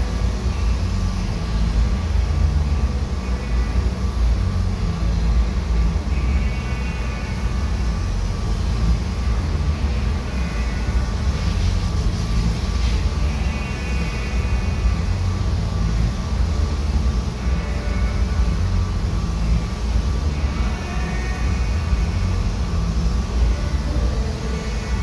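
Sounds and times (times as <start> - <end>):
air hose hissing: 0.0 - 25.0
ventilation fans rumbling: 0.0 - 25.0.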